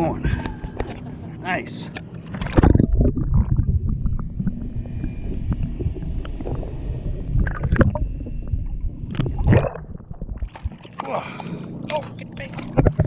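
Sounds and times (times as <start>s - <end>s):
water noise: 1.9s - 13.0s
wind rumbling: 2.3s - 13.0s.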